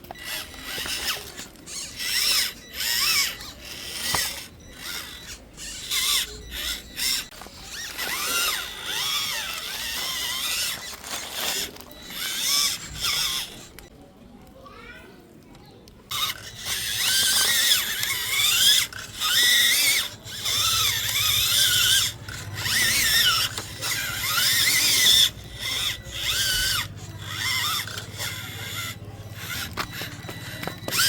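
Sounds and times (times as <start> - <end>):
toy bulldozer motors whining: 0.0 - 31.0.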